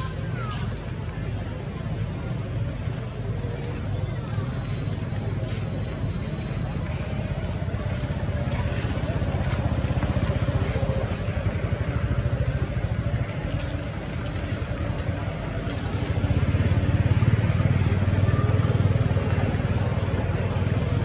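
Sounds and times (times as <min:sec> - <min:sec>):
vehicle engine rumble: 0:00.0 - 0:21.0.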